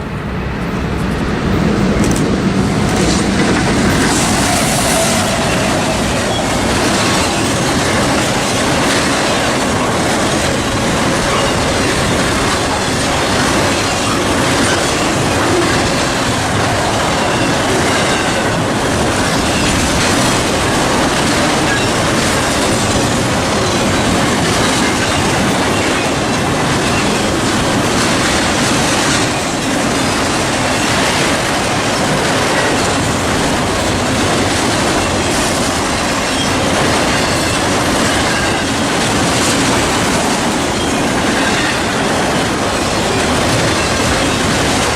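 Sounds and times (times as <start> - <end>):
freight train cars rolling past: 0.0 - 44.9.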